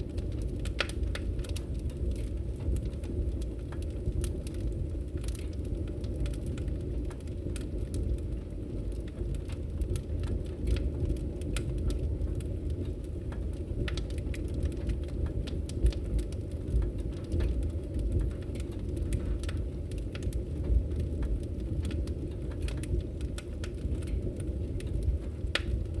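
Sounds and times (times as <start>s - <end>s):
log fire crackling and popping: 0.0s - 26.0s.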